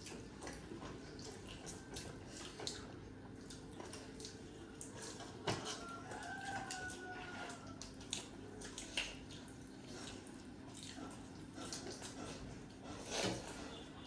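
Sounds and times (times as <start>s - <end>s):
chewing smacks: 0.0s - 12.9s.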